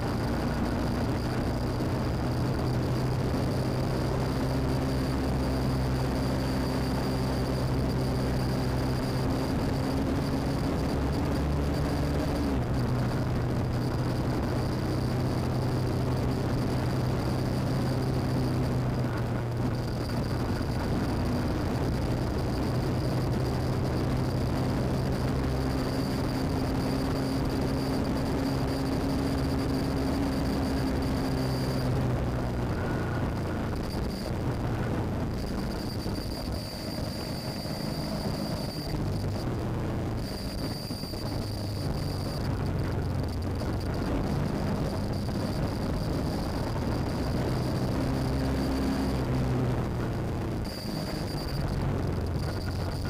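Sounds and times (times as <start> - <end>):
faint high whine: 0.0 - 53.0
motorcycle engine cruising: 0.0 - 53.0.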